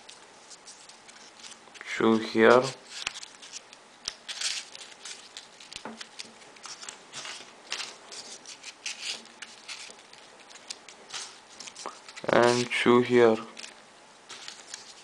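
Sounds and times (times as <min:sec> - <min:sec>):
paper rustling and scraping: 0:00.0 - 0:12.7, 0:13.5 - 0:15.0.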